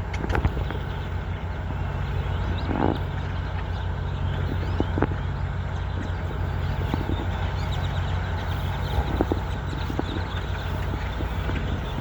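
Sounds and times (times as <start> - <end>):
birds chirping and calling: 0.0 - 12.0
truck diesel engine idling: 0.0 - 12.0.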